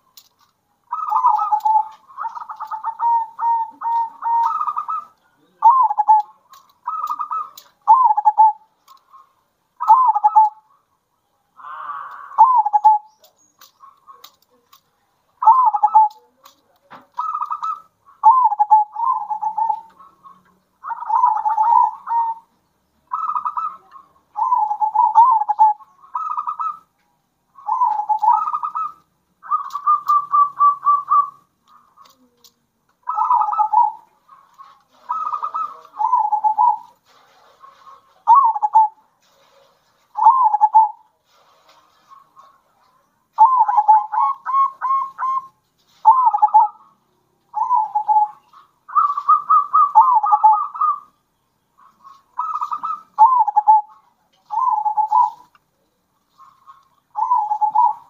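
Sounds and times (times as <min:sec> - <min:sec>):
doves cooing: 0:00.8 - 0:26.9, 0:27.5 - 0:51.2, 0:51.8 - 0:55.6, 0:56.2 - 0:58.0.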